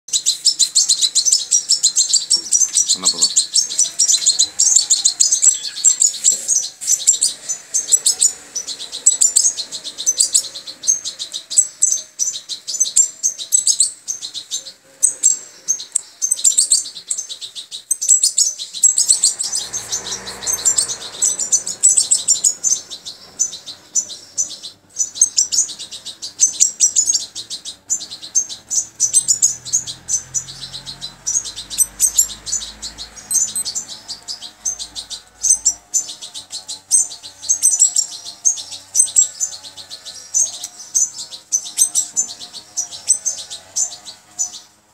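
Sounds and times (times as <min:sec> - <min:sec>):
young birds chirping rapidly: 0:00.1 - 0:44.9.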